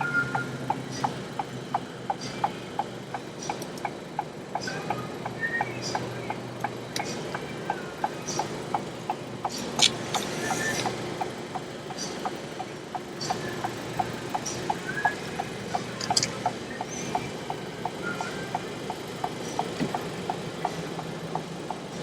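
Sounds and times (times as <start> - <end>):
steady ticking: 0.0 - 22.0.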